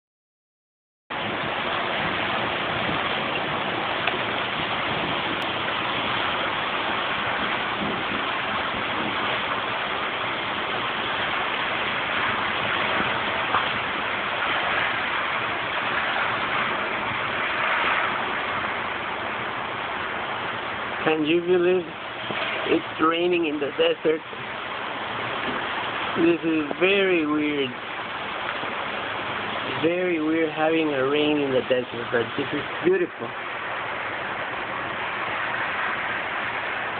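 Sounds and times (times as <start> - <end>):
rain on wet pavement: 1.1 - 36.9.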